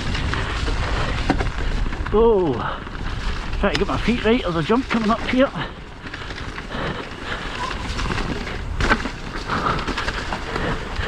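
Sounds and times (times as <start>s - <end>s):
bike rumbling and rattling: 0.0s - 11.0s
wind buffeting microphone: 0.0s - 11.0s.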